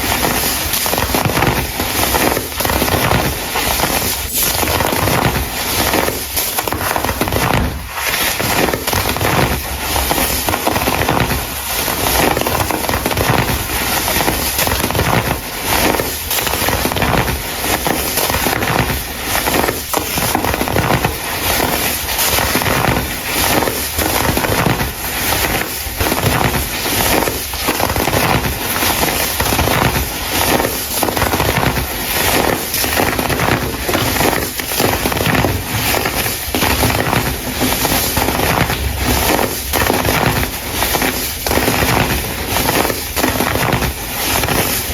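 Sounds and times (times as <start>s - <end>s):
crumble being crushed crunching: 0.0s - 44.9s.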